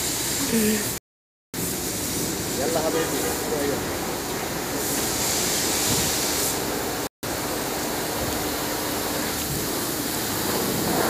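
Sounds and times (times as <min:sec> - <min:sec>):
rushing hiss of outdoor noise: 0:01.6 - 0:11.0.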